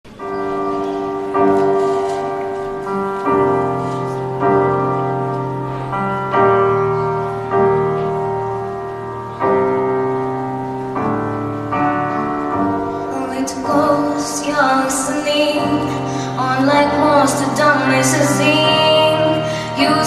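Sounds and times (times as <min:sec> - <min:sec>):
slow piano chords: 0:00.1 - 0:20.0.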